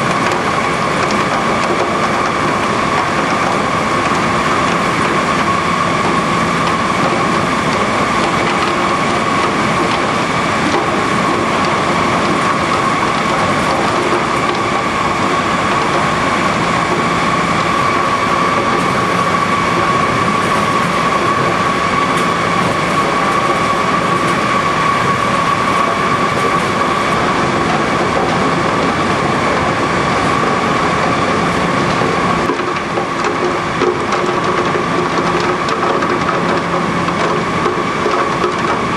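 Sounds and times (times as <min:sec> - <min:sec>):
machinery rushing noise: 0:00.0 - 0:38.9
machinery whine: 0:00.0 - 0:38.9.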